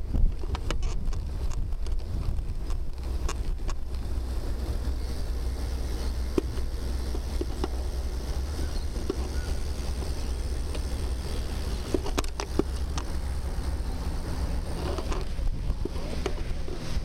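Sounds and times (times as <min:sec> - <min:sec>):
faint hiss: 0:00.0 - 0:17.0
wind buffeting microphone: 0:00.0 - 0:17.0.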